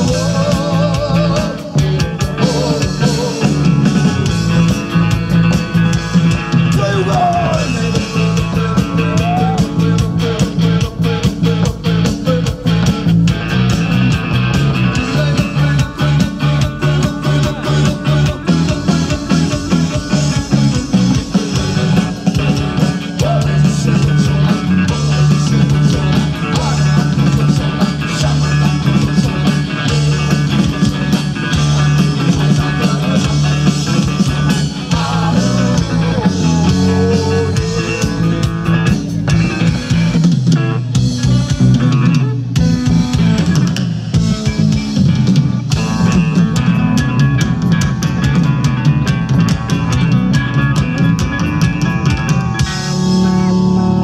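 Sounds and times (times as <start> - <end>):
amplified lutes and guitar: 0.0 - 54.0
driving drum kit: 0.0 - 54.0
rock band playing live: 0.0 - 54.0.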